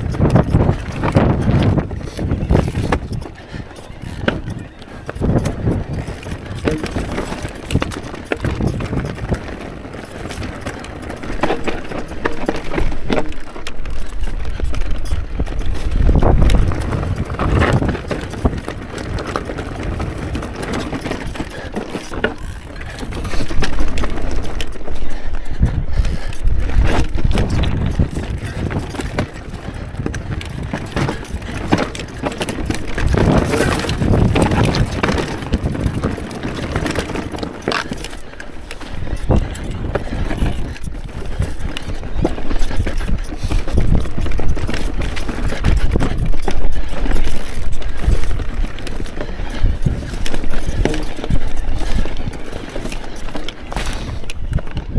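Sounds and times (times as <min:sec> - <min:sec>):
bike clattering and rattling: 0:00.0 - 0:54.9
tyres crunching over stones: 0:00.0 - 0:54.9
wind rumble on microphone: 0:00.0 - 0:54.9.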